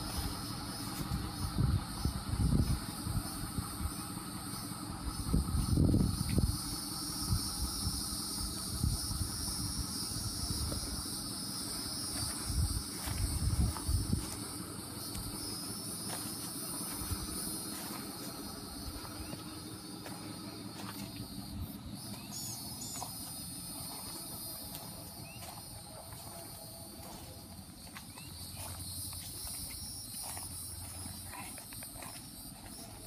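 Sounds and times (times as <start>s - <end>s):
insects droning: 0.0s - 33.0s
low microphone rumble: 0.0s - 33.0s.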